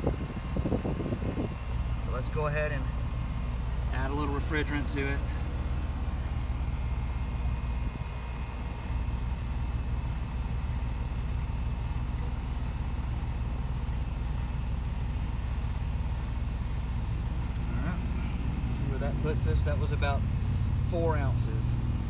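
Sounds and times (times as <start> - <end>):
air conditioner unit humming: 0.0 - 22.0.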